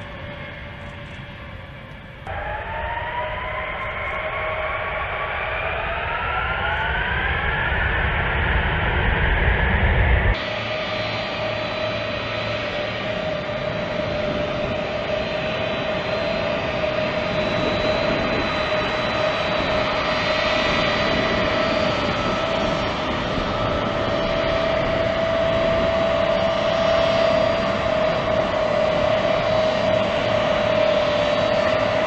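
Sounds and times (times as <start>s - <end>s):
jet engines roaring and whining: 0.0s - 32.0s.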